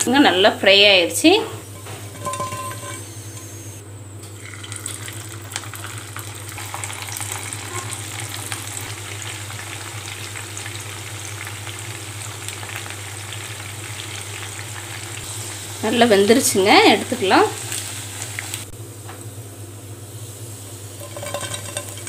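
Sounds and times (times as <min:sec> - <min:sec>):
prawns deep-frying in hot oil: 0:04.3 - 0:22.0.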